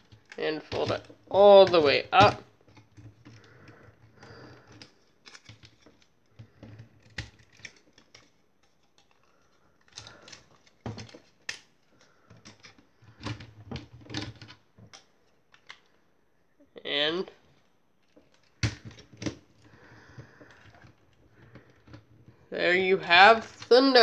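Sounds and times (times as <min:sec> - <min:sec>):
plastic toy parts clicking: 0:00.0 - 0:16.0, 0:17.5 - 0:22.3.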